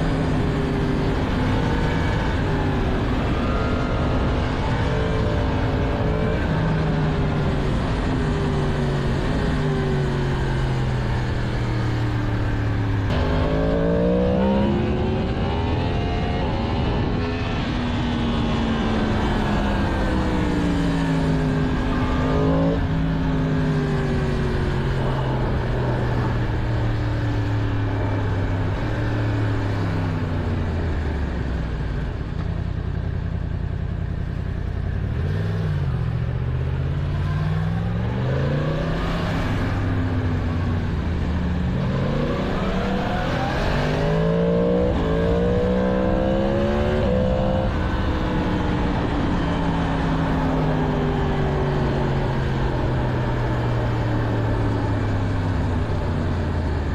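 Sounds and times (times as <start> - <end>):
motorcycle engine revving: 0.0 - 31.0, 34.2 - 56.9.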